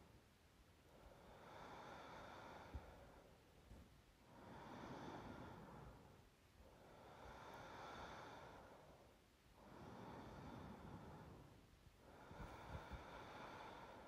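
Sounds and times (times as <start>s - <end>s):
woman breathing in sleep: 0.8s - 14.0s.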